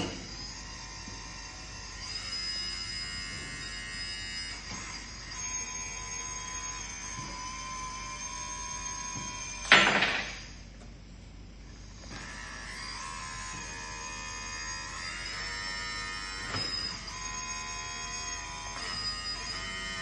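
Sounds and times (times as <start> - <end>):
small electric motor whining: 0.0 - 10.6, 11.7 - 20.0.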